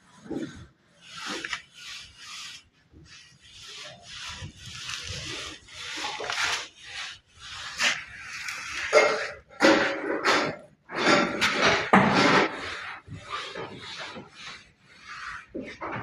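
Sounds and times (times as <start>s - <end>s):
trowel scraping plaster: 0.0s - 16.0s.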